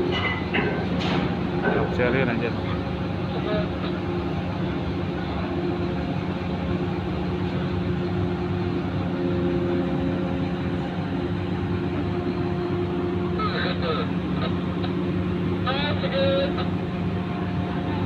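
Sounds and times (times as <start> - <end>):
ship diesel engines humming: 0.0 - 18.0.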